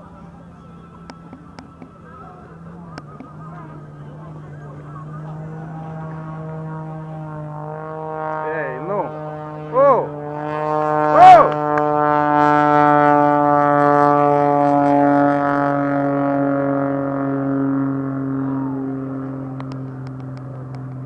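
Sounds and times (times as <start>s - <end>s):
propeller plane flying past: 0.0s - 21.0s.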